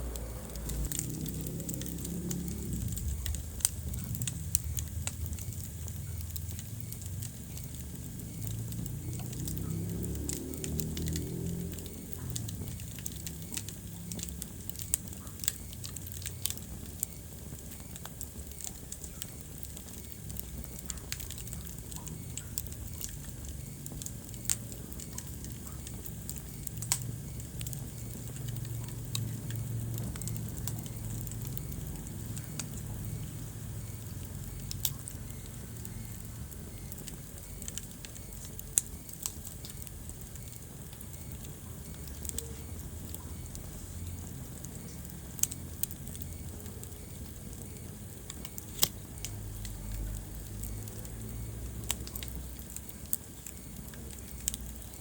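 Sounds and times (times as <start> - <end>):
fire crackles and pops: 0.0 - 55.0
low rumble of flames: 0.0 - 55.0.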